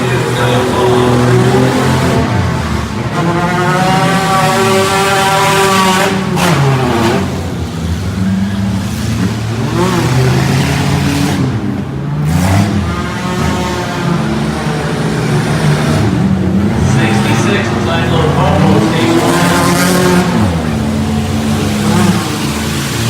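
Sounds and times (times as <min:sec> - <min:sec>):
car engines revving and accelerating: 0:00.0 - 0:23.0.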